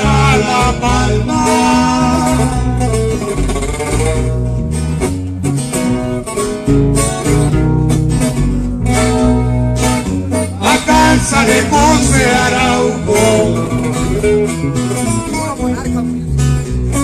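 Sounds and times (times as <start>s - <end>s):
guitar picking melody: 0.0s - 17.0s
low bass notes: 0.0s - 17.0s.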